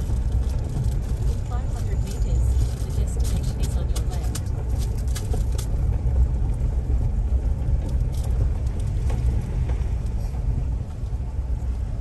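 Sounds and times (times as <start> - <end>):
vehicle driving on dirt track: 0.0 - 12.0.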